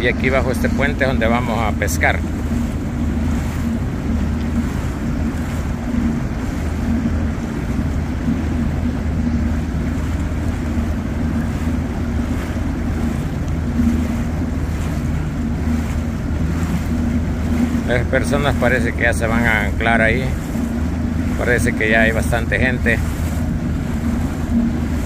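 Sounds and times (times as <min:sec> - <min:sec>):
outboard motor running: 0:00.0 - 0:25.0
water and wind noise: 0:00.0 - 0:25.0.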